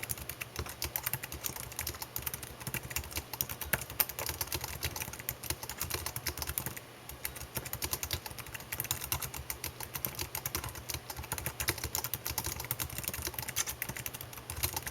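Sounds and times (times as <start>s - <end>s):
typing on computer keyboard: 0.0s - 14.9s.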